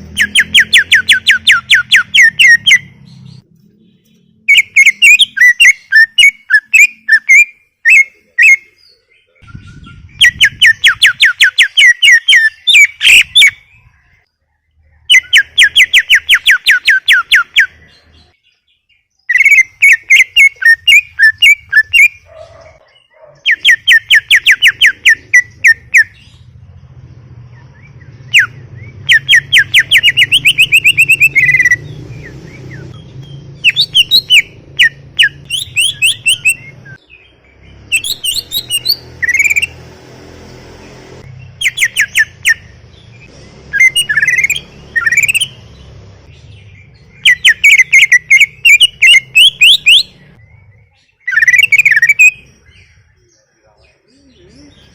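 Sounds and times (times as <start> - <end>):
bird singing rapid notes: 0.0 - 54.9.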